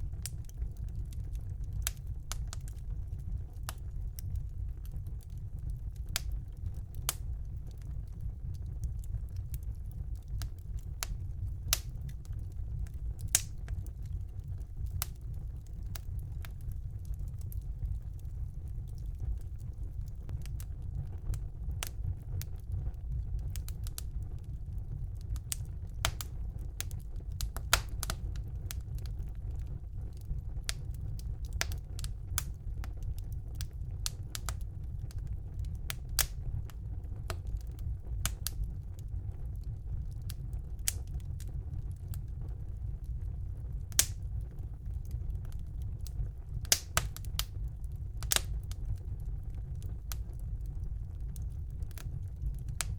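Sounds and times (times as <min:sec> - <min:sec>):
low rumble of flames: 0:00.0 - 0:52.9
wood fire crackling and popping: 0:00.0 - 0:52.9.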